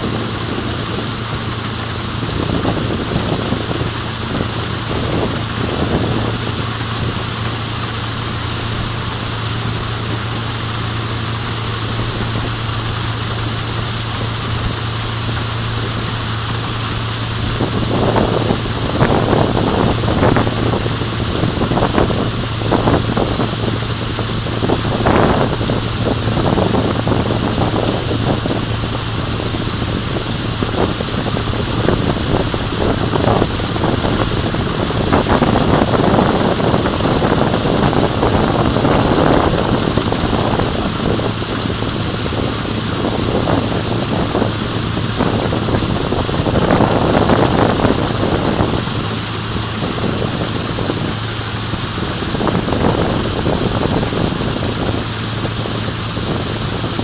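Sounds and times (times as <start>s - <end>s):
steady low hum: 0.0s - 57.0s
wind buffeting microphone: 0.0s - 57.0s.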